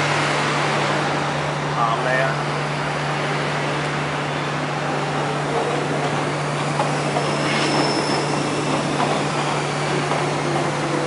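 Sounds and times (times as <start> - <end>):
train rushing noise: 0.0 - 11.0.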